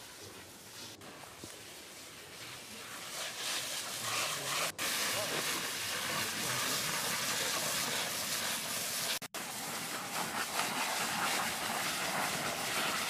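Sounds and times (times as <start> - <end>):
fire hose water jet hissing: 0.0 - 13.0.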